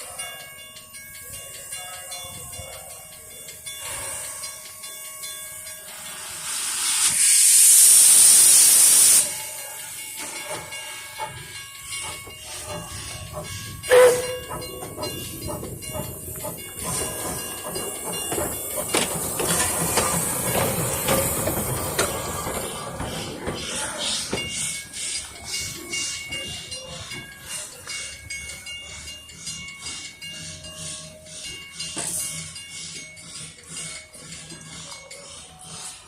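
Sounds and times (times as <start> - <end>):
steam locomotive hissing: 0.1 - 36.0.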